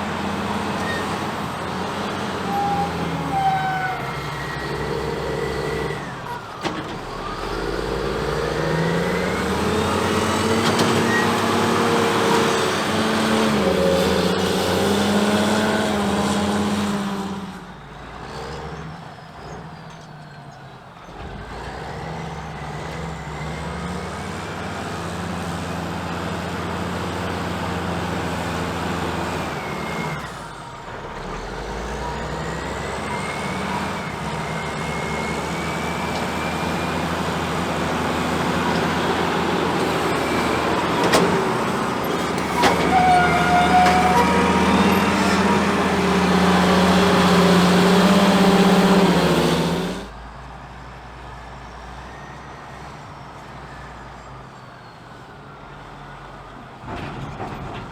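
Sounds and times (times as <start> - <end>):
diesel engines working hard: 0.0 - 57.9.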